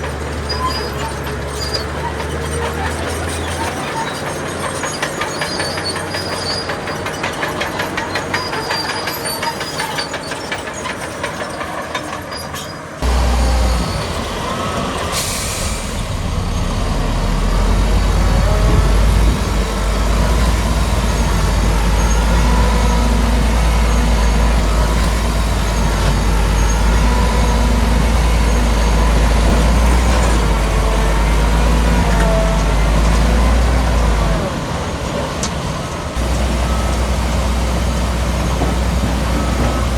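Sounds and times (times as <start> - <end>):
diesel machinery engine: 0.0 - 39.9
wavering squeaks: 0.3 - 14.8, 15.6 - 34.2.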